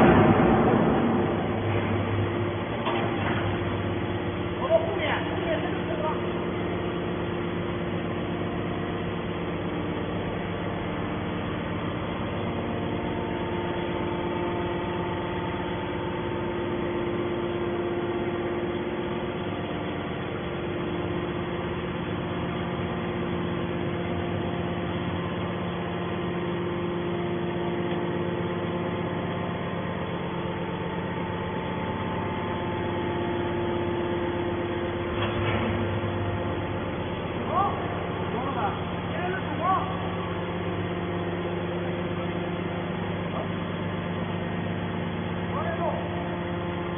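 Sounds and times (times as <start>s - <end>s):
baler machine drone: 0.0s - 46.9s.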